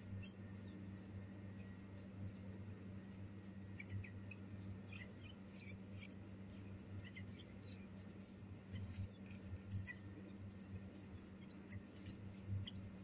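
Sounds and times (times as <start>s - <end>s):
nestlings peeping: 0.0s - 13.0s.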